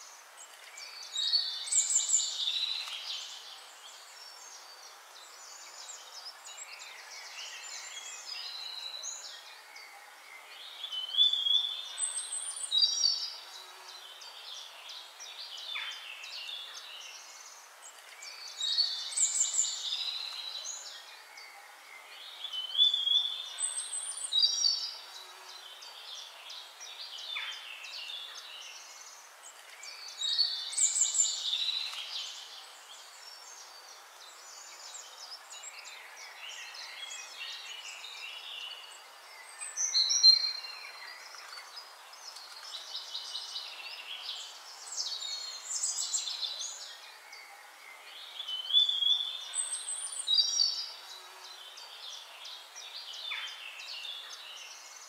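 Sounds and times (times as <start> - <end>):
faint steady hiss: 0.0 - 55.0
songbirds chirping and trilling: 0.0 - 55.0.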